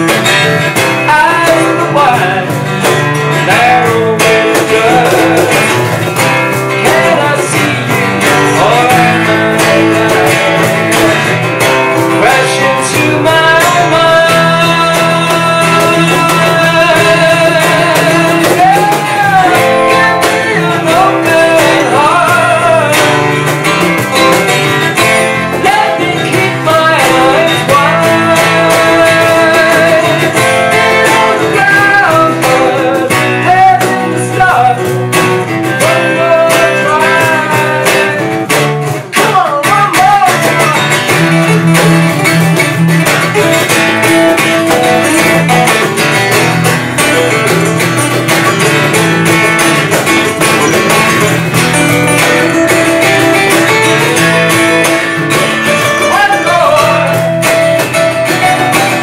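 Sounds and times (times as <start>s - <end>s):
acoustic guitars strumming: 0.0s - 59.0s
electric bass guitar: 0.0s - 59.0s
man singing: 0.0s - 59.0s.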